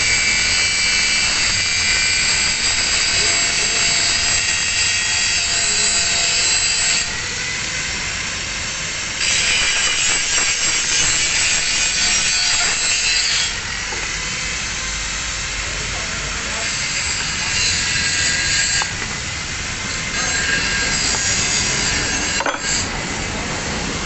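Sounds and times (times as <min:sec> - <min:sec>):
angle grinder grinding steel: 0:00.0 - 0:15.6, 0:16.4 - 0:23.2.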